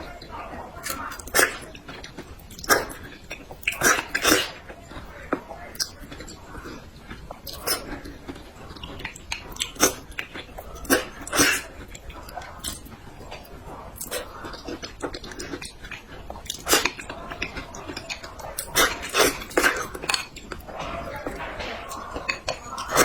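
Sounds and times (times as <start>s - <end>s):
wet chewing and smacking: 0.0s - 23.0s.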